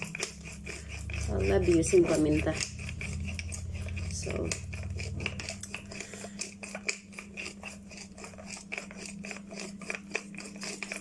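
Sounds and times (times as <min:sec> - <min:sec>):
pepper mill grinding: 0:00.0 - 0:11.0.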